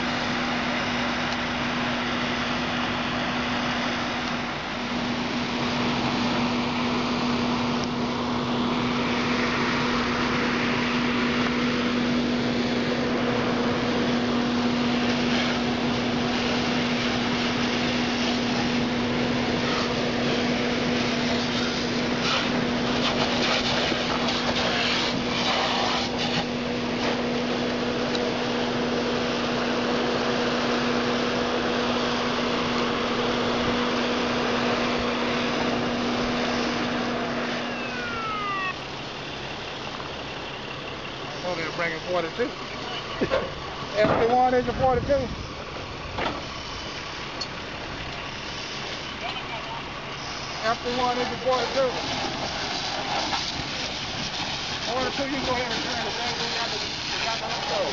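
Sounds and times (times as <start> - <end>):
fire pump engine humming: 0.0 - 57.9
hoses spraying water: 0.0 - 57.9.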